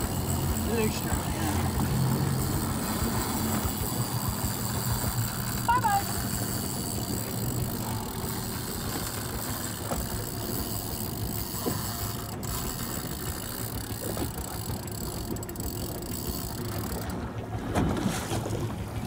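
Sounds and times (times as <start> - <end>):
outboard engine idling: 0.0 - 19.0
sea noise: 0.0 - 19.0
wind: 0.0 - 19.0.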